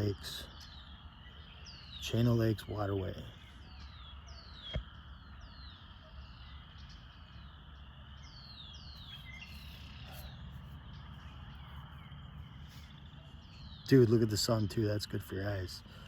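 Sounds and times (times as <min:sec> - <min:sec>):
birds whistling: 0:00.0 - 0:16.0
insects trilling: 0:00.0 - 0:16.0.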